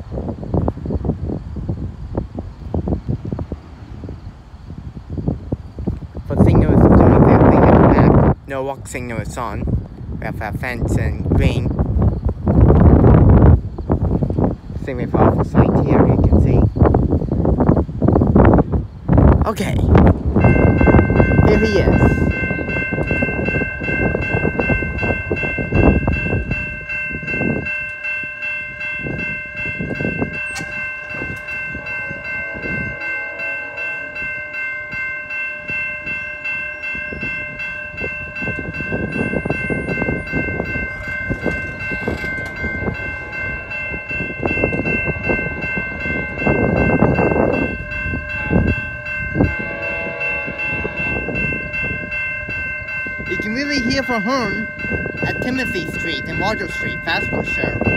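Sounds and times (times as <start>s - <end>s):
level-crossing warning bell: 5.8s - 9.8s, 10.5s - 57.9s.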